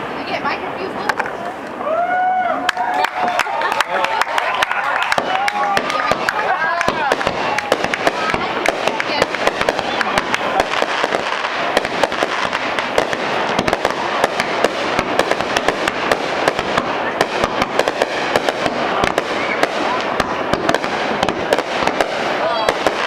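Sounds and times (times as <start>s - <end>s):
fireworks bursting and crackling: 0.0s - 2.0s, 2.8s - 23.0s.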